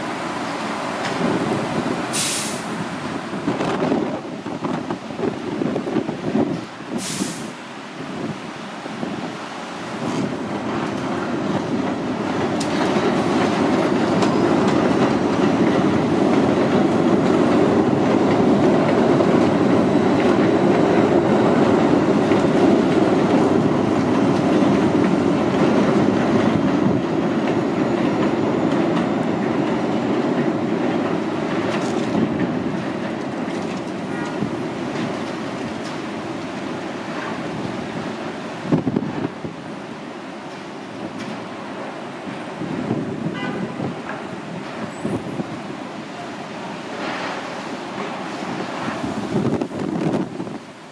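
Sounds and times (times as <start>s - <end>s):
subway train wheels clattering: 0.0s - 50.9s.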